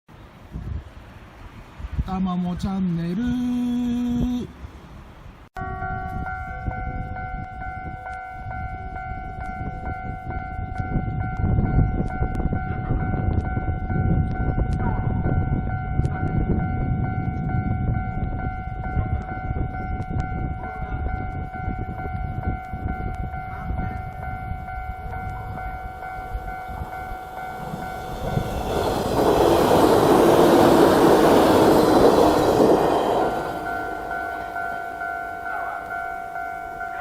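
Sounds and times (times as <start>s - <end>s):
train rumbling past: 4.7s - 37.0s
level-crossing warning bell: 5.6s - 37.0s.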